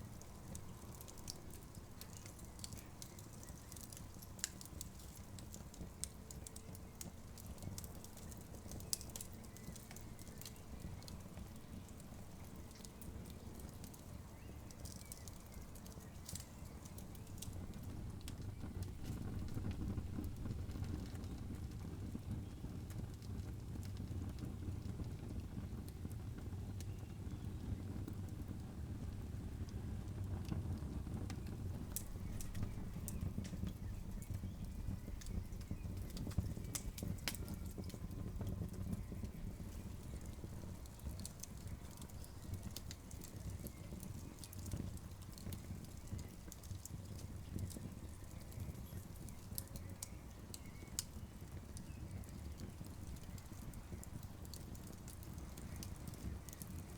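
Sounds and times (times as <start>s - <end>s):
campfire crackles and pops: 0.0s - 56.9s.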